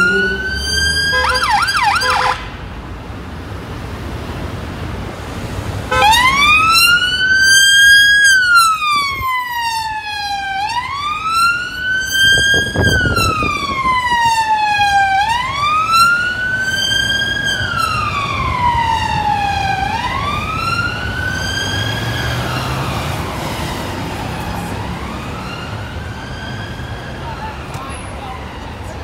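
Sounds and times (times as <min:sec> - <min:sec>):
police siren wailing: 0:00.0 - 0:02.5, 0:05.9 - 0:29.0
road traffic: 0:00.0 - 0:29.0.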